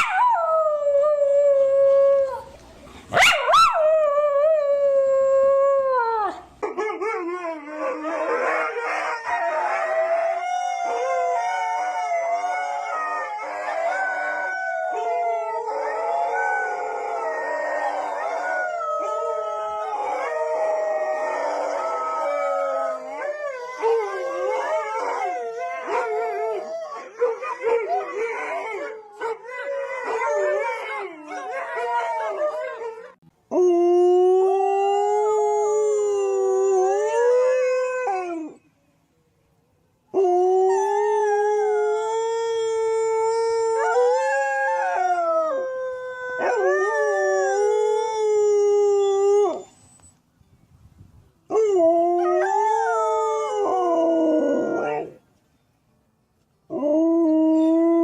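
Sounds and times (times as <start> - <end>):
dogs howling: 3.2 - 38.6, 40.2 - 49.8, 51.5 - 55.2.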